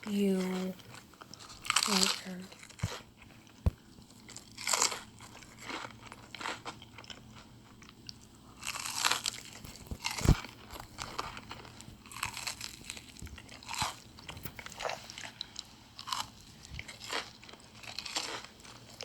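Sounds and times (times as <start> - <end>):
crunchy snack being chewed: 0.1 - 19.0.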